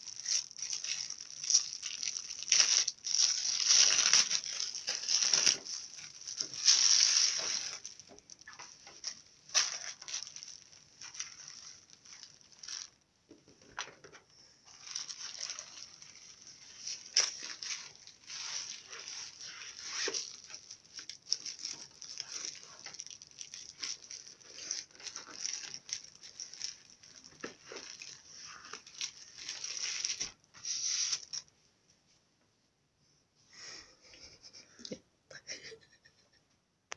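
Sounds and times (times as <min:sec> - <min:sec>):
plastic bag crinkling: 0:00.0 - 0:13.0, 0:13.6 - 0:31.5.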